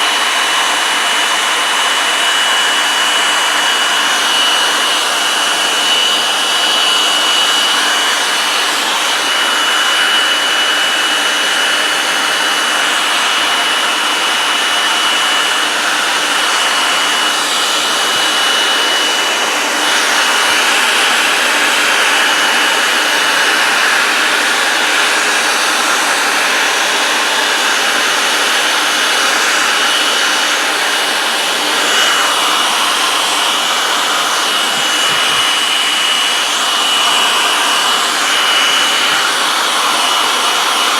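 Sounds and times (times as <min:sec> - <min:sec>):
hot-air blower running: 0:00.0 - 0:40.9.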